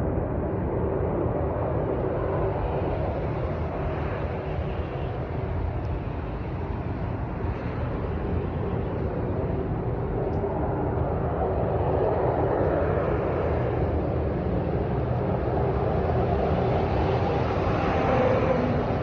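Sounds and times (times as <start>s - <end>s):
loud steady roar: 0.0s - 19.0s.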